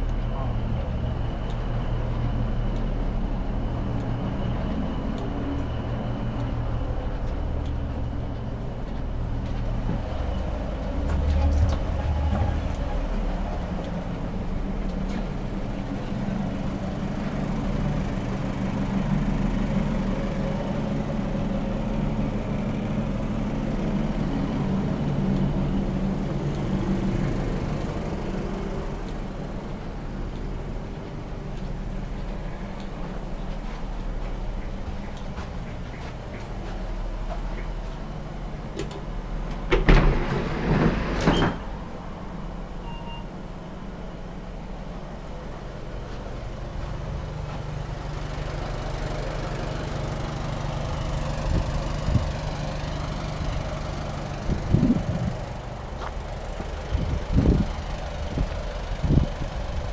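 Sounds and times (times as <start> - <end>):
train diesel engine hum: 0.0 - 59.9.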